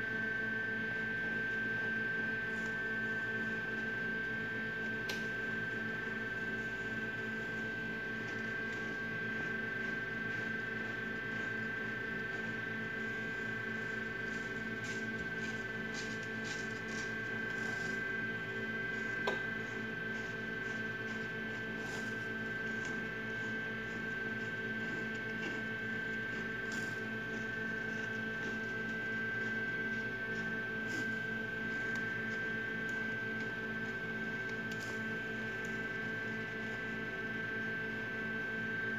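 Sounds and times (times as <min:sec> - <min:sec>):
electrical hum with high whine: 0:00.0 - 0:38.9.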